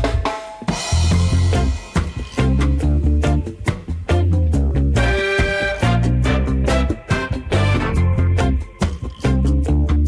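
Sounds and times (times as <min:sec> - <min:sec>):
upbeat swing music with horns: 0:00.0 - 0:10.0.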